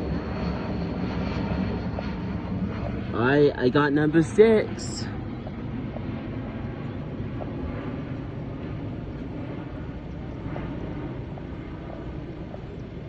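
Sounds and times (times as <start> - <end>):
jet airliner rumbling overhead: 0.0 - 13.0.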